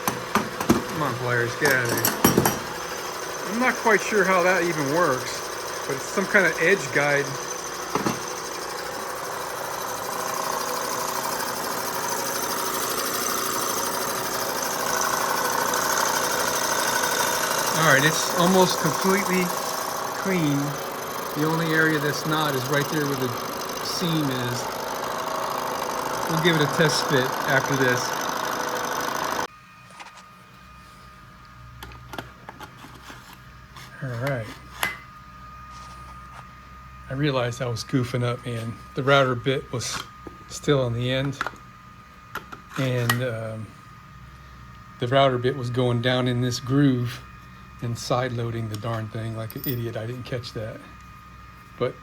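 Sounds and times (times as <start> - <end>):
lathe running with whining tones: 0.0 - 52.0.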